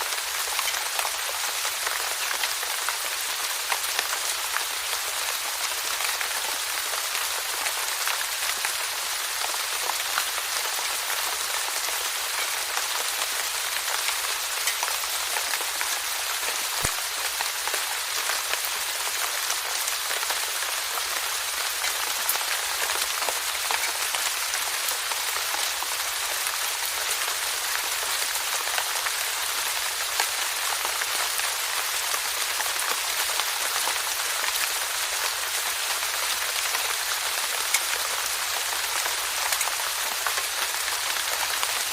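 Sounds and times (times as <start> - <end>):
steady rainfall: 0.0 - 41.9.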